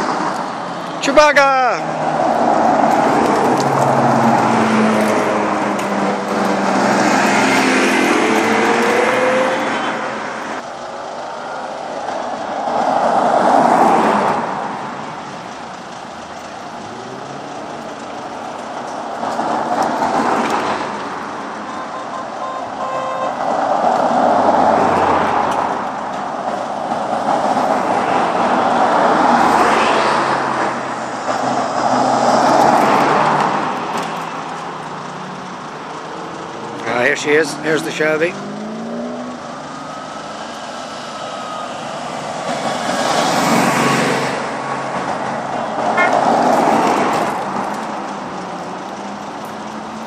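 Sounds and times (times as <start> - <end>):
cars driving past: 0.0 - 50.0.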